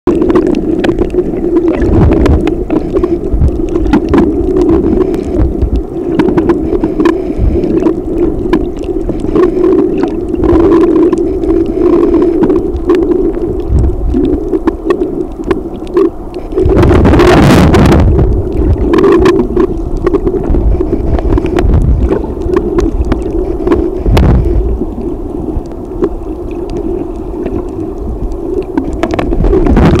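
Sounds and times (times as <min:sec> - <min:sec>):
underwater low hum: 0:00.1 - 0:30.0.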